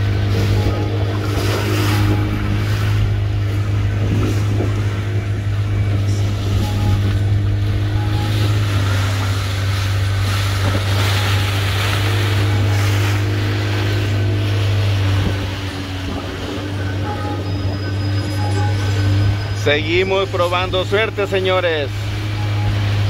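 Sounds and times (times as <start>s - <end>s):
boat motor humming: 0.0s - 23.0s
water wash: 0.0s - 23.0s
wind: 0.0s - 23.0s.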